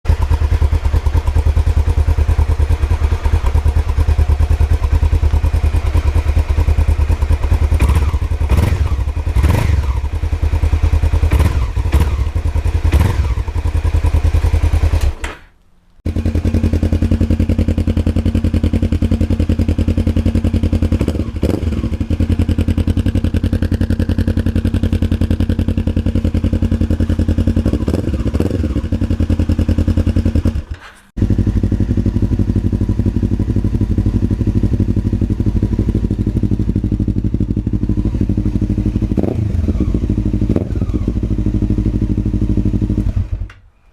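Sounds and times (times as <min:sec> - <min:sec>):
motorcycle engine idling: 0:00.1 - 0:15.5, 0:16.1 - 0:43.7.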